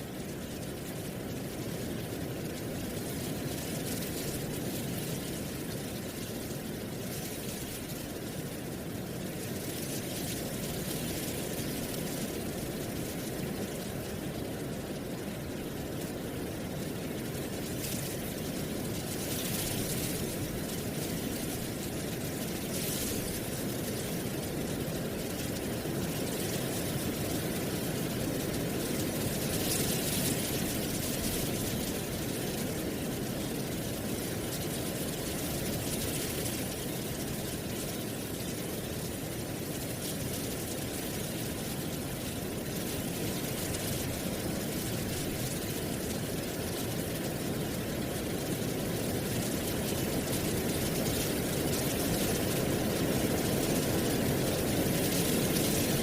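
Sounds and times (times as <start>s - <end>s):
wind through dry leaves: 0.0s - 56.0s.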